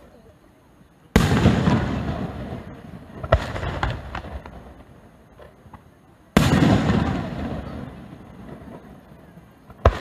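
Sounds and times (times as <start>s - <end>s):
firework pops: 1.2s - 8.9s, 9.6s - 10.0s.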